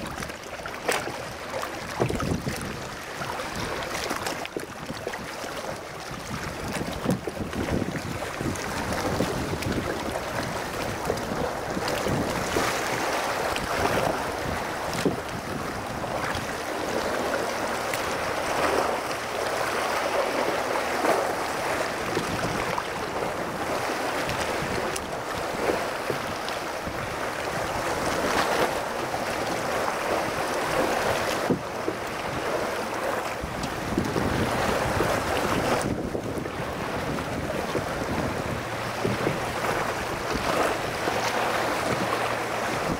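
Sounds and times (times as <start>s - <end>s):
sea water splashing on rocks: 0.0s - 42.9s
wind noise on microphone: 1.0s - 17.2s, 21.1s - 42.9s.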